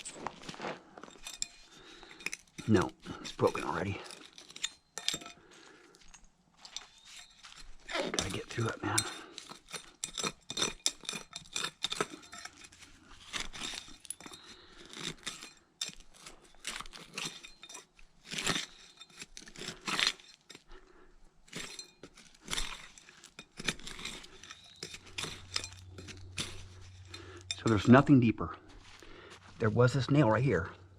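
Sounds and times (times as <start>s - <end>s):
hand digger scraping soil: 0.0s - 6.0s, 6.6s - 30.9s
glass shards clinking: 0.0s - 20.8s, 21.4s - 28.2s.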